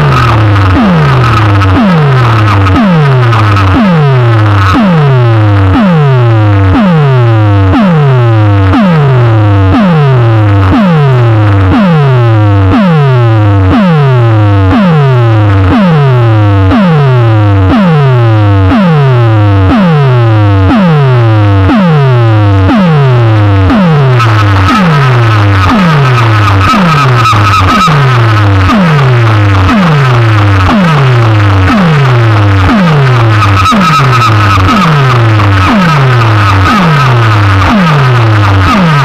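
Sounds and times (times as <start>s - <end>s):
loud electronic music: 0.0s - 39.0s
strong bass note: 0.0s - 39.0s
synthesizer falling pitch sweep: 0.0s - 39.0s.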